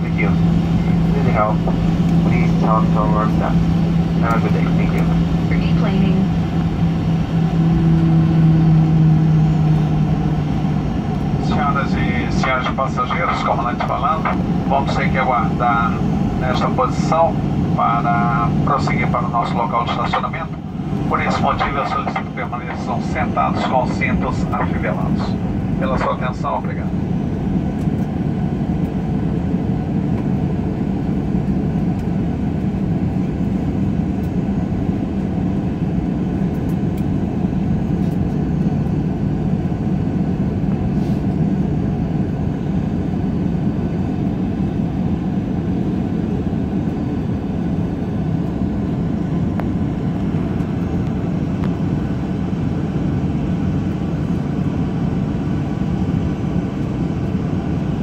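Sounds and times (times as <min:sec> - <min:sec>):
jet engines idling in cabin: 0:00.0 - 0:58.0.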